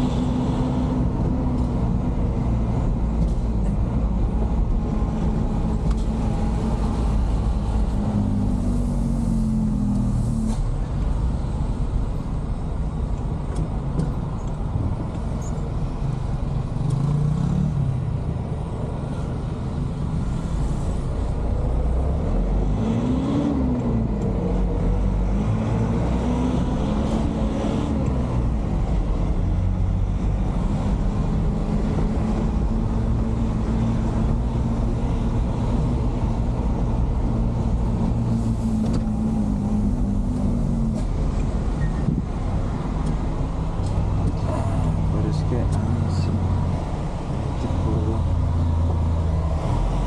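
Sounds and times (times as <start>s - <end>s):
low rumble of road: 0.0s - 50.0s
truck engine from inside cab: 0.0s - 50.0s.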